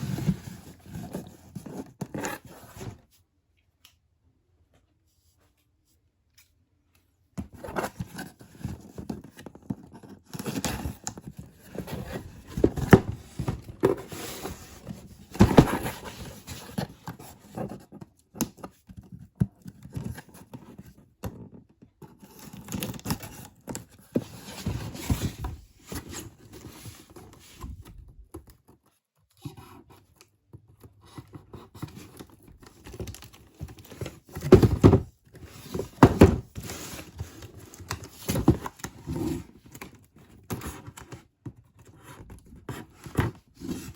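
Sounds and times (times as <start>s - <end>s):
paper and cardboard rustling: 0.0s - 3.1s, 7.5s - 18.0s, 22.1s - 43.9s.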